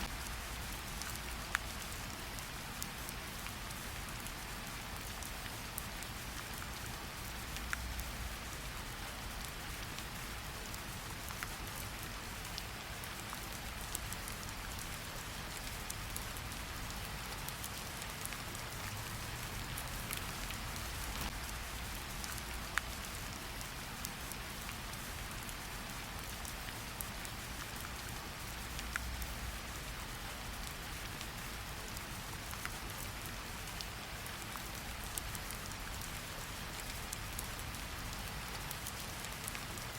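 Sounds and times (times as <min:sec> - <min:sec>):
fireplace fire crackling: 0:00.0 - 0:39.9
rain hiss: 0:00.0 - 0:39.9.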